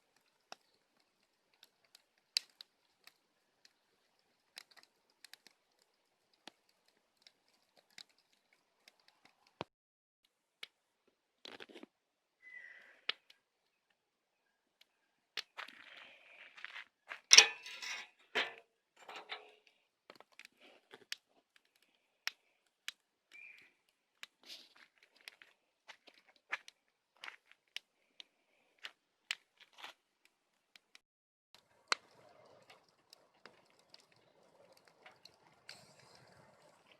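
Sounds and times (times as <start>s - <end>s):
bonfire crackling and popping: 0.0s - 9.7s, 14.8s - 18.5s, 19.1s - 31.0s, 31.6s - 36.9s.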